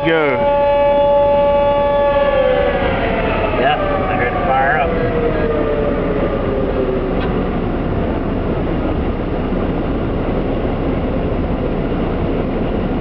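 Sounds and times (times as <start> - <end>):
fire truck engine rumbling: 0.0 - 13.0.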